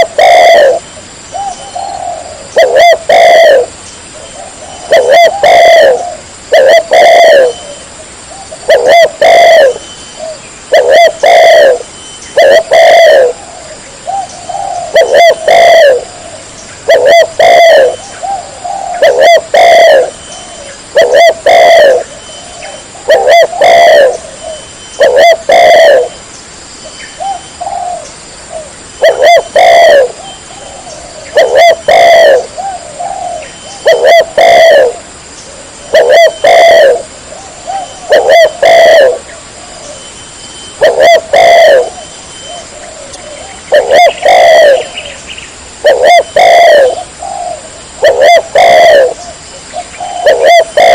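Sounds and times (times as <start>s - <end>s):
dove cooing: 0.0s - 26.2s, 27.2s - 50.9s.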